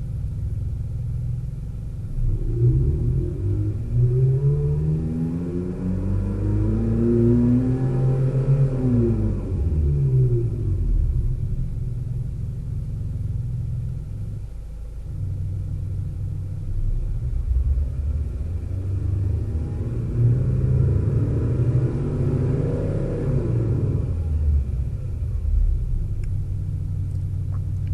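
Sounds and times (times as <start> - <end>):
synthetic exhaust rumble in car cabin: 0.0 - 6.3, 7.2 - 27.9.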